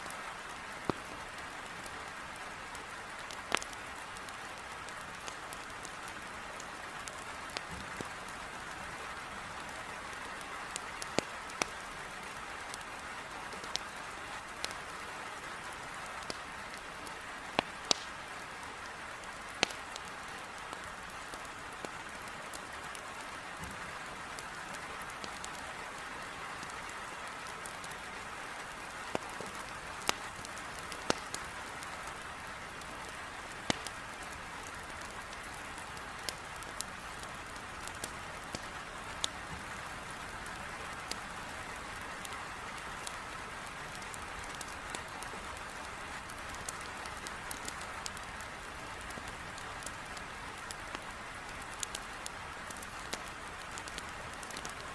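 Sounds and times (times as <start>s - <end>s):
firewood crackling and popping: 0.0s - 54.9s
heavy rain against a window: 0.0s - 54.9s.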